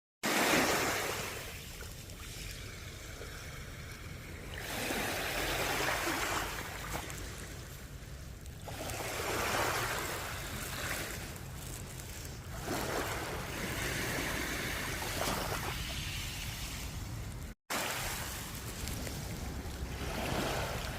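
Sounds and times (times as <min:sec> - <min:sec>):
ocean waves breaking: 0:00.2 - 0:20.9
low rumble of surf: 0:00.3 - 0:20.9.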